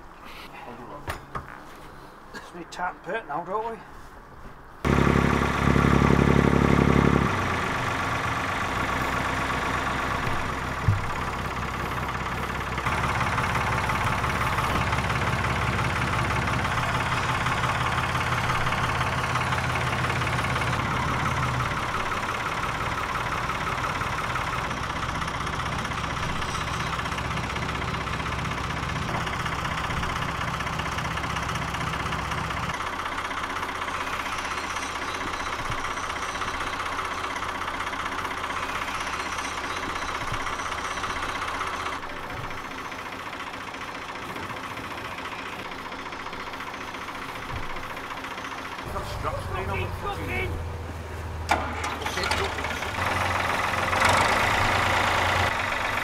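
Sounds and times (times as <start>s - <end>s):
tractor diesel engine idling: 4.8s - 56.0s.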